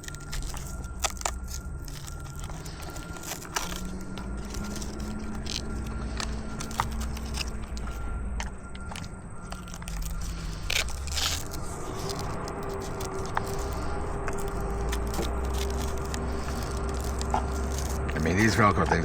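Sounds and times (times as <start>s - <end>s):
low rumble: 0.0s - 19.0s
scraping: 0.0s - 19.0s.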